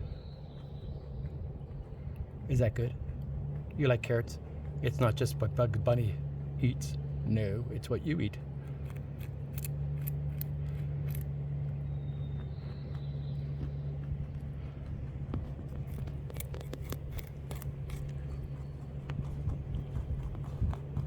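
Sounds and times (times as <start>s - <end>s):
low hum: 0.0s - 21.0s
rabbit crunching a carrot: 0.0s - 21.0s.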